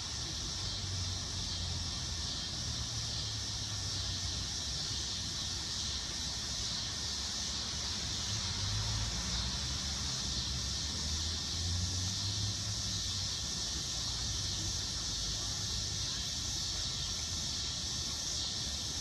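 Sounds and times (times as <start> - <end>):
cicada buzzing: 0.0 - 19.0.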